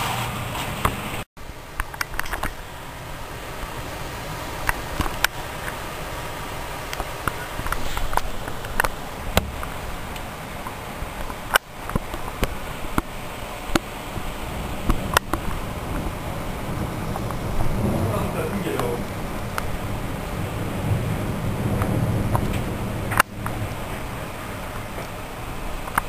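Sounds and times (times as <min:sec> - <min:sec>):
heavy rain and wind: 0:00.0 - 0:26.0.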